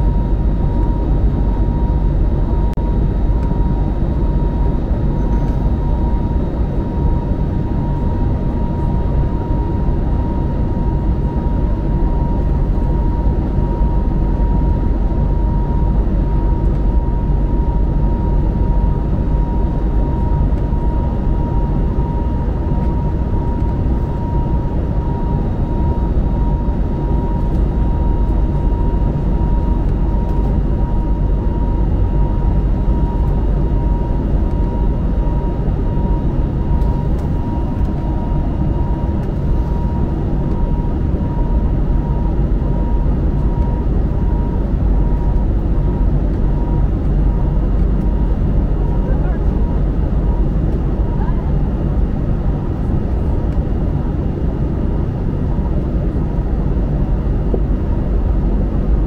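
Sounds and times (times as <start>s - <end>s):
airplane cabin engine and airflow: 0.0s - 59.0s.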